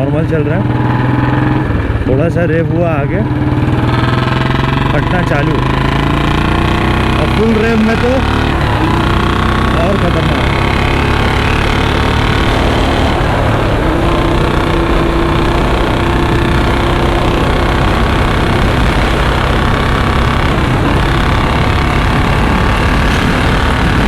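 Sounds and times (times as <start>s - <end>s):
motorcycle engine accelerating hard: 0.0s - 24.0s.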